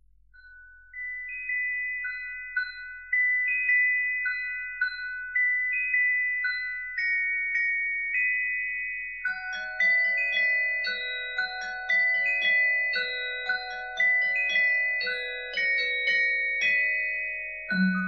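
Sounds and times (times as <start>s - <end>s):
bell-like melody: 0.3s - 18.0s.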